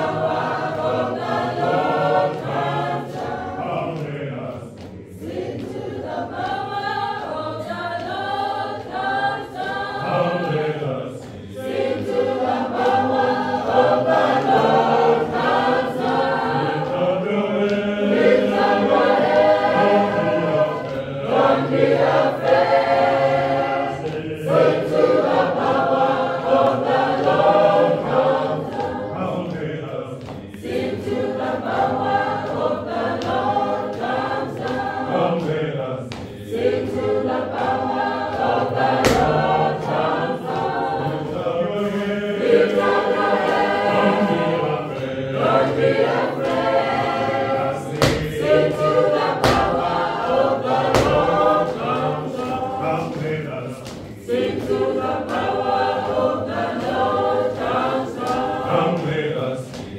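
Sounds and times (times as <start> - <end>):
choir singing a processional: 0.0 - 59.9.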